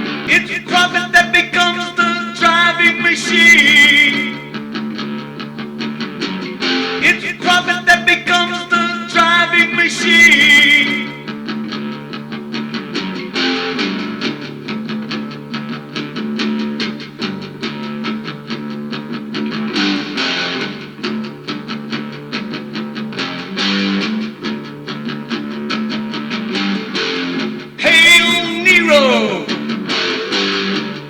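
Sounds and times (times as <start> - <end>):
electric guitars and bass: 0.0 - 31.0.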